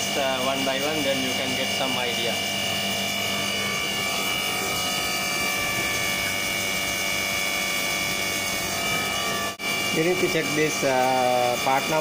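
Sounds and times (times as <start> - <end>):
electric pump whining: 0.0 - 12.0.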